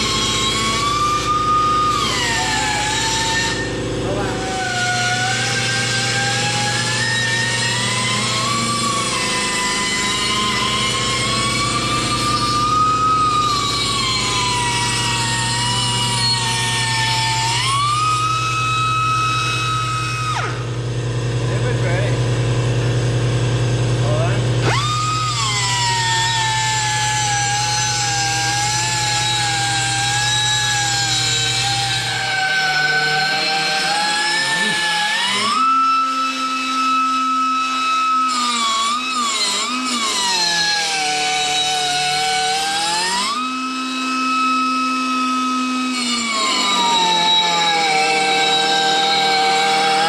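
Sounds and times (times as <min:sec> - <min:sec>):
angle grinder grinding metal: 0:00.0 - 0:50.0.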